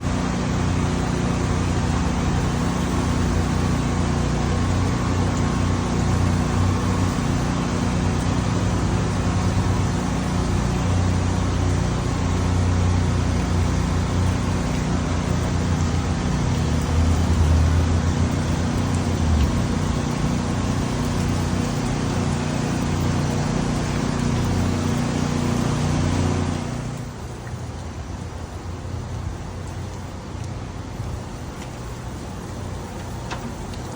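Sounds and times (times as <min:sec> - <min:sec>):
heavy rain hissing: 0:00.0 - 0:33.9
low engine hum: 0:00.0 - 0:33.9.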